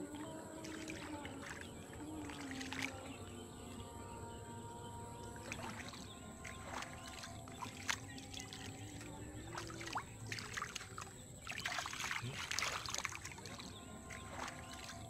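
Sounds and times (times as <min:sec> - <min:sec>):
hands sloshing through muddy water: 0:00.0 - 0:03.7, 0:05.2 - 0:15.0
small water splashes: 0:00.0 - 0:15.0.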